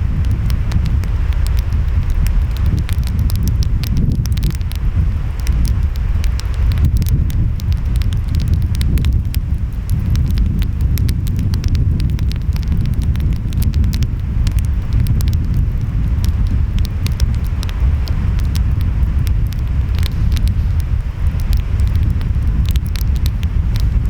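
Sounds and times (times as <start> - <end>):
ocean waves rumbling: 0.0 - 24.0
wind: 0.0 - 24.0
wood fire crackling and popping: 0.0 - 24.0.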